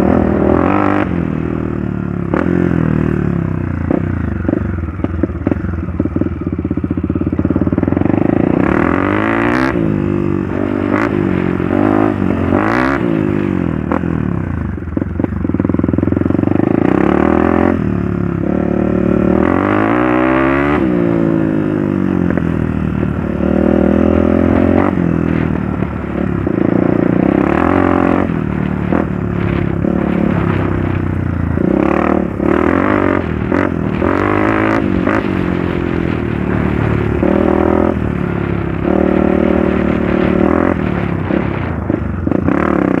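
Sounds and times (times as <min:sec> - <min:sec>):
motorcycle engine revving: 0:00.0 - 0:43.0
motorcycle knocks and clatter: 0:00.2 - 0:18.2, 0:21.6 - 0:43.0.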